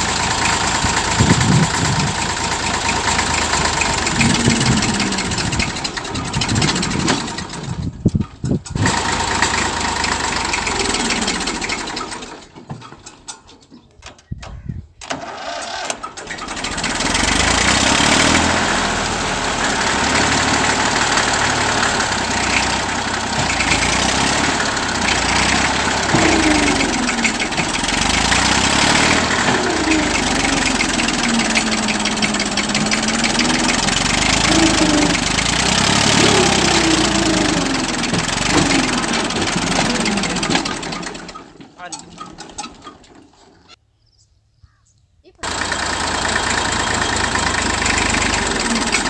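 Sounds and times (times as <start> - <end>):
rapid engine clatter: 0.0 - 13.4, 15.0 - 43.8, 45.4 - 49.0
tractor engine running: 0.0 - 43.8, 45.4 - 49.0.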